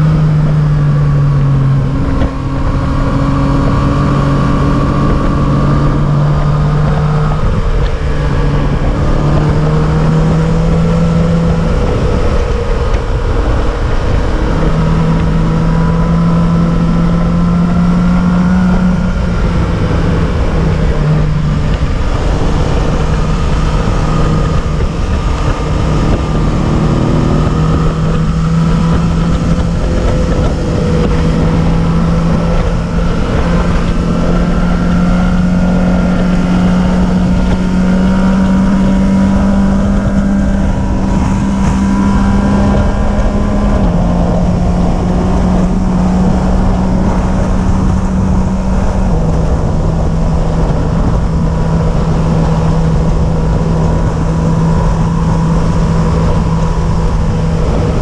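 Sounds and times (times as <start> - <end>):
road and wind rumble: 0.0 - 58.0
vehicle engine running: 0.0 - 58.0.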